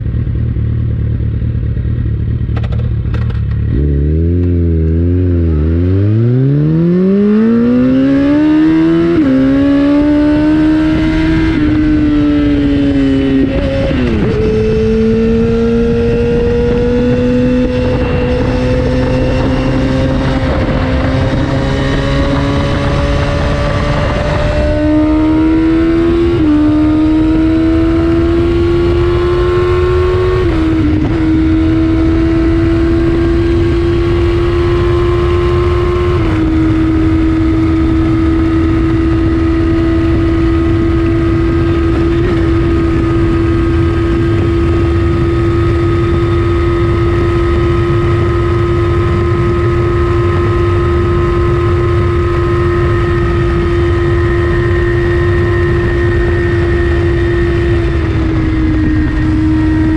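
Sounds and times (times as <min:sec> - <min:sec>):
motorcycle engine at high speed: 0:00.0 - 0:59.9.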